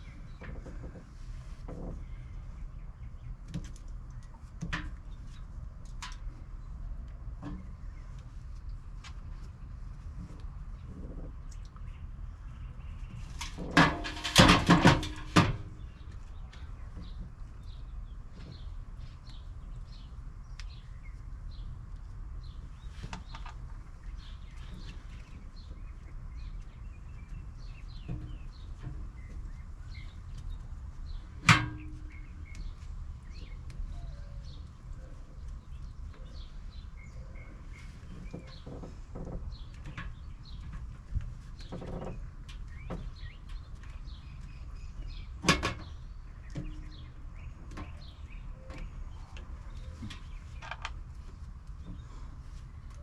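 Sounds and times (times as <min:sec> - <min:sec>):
small birds chirping: 0:00.0 - 0:13.5, 0:15.7 - 0:53.0.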